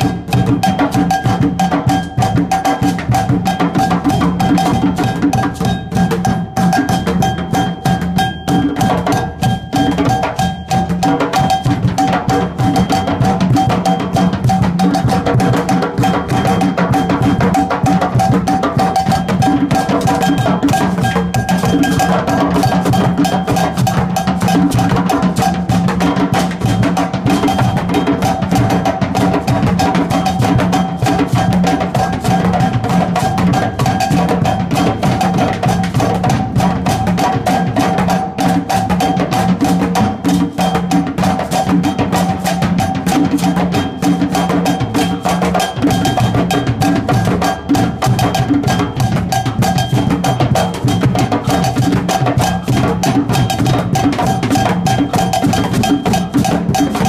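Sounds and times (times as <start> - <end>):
fast drumming on drum kit: 0.0 - 57.0.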